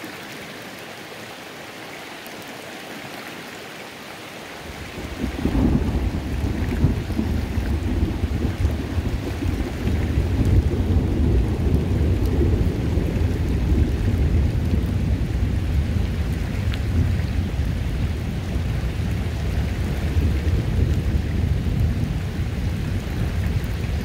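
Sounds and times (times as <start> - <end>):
rain drops ticking on creek: 0.0 - 24.0.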